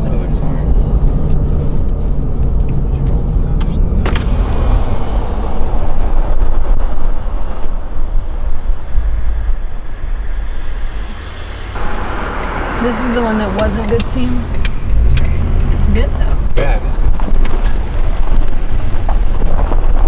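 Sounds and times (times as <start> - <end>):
truck cab road rumble: 0.0 - 9.4, 10.0 - 20.0.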